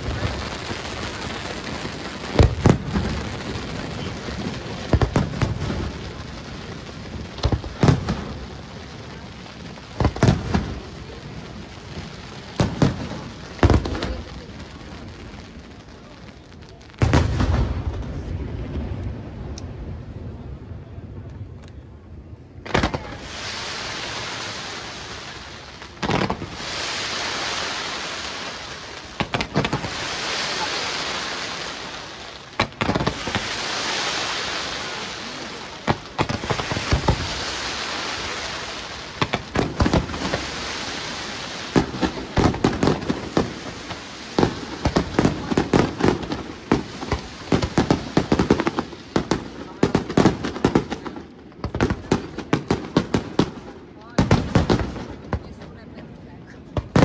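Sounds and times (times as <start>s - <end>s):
firework bangs: 0.0s - 21.3s, 22.6s - 56.0s, 56.7s - 57.0s
hissing crackling firework shower: 0.0s - 57.0s.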